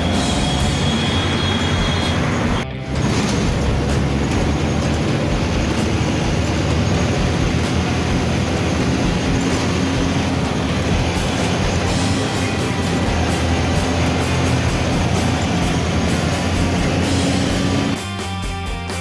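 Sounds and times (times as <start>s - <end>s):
bus engine rumble: 0.0s - 18.0s
rattling inside bus: 0.0s - 18.0s
road noise: 0.0s - 19.0s.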